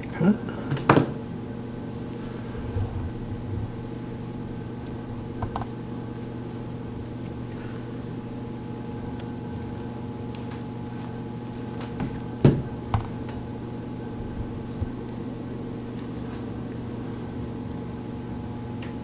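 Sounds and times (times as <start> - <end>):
appliance humming: 0.0 - 19.0.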